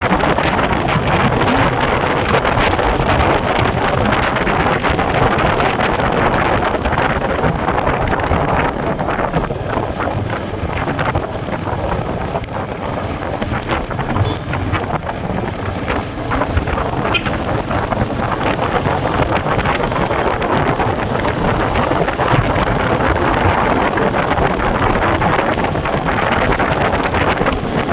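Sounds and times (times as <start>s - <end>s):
motorcycle engine running: 0.0s - 27.9s
wind buffeting microphone: 0.0s - 27.9s.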